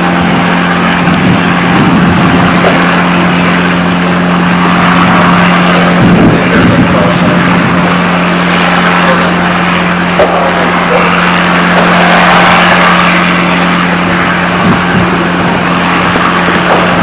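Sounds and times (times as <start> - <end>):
constant low hum: 0.0 - 17.0
loud engine noise: 0.0 - 17.0.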